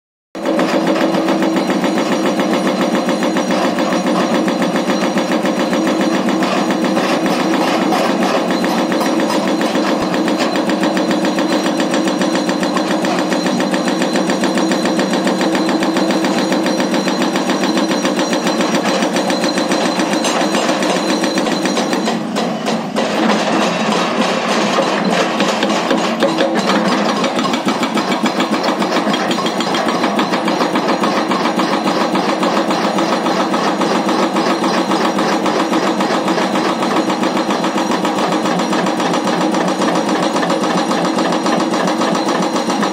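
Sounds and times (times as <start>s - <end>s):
hydraulic breaker hammering rock: 0.4s - 42.9s.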